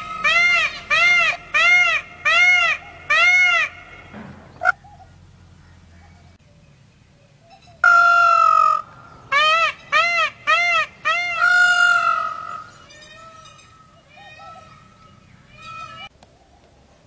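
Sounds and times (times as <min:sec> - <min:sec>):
peacock calling loudly: 0:00.0 - 0:06.1, 0:07.8 - 0:16.1.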